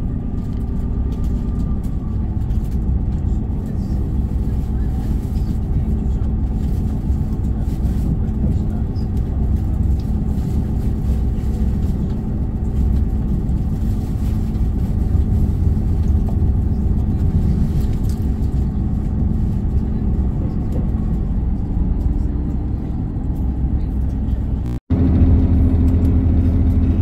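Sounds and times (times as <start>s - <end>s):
train engine drone: 0.0s - 27.0s
wheel and track rumble: 0.0s - 27.0s.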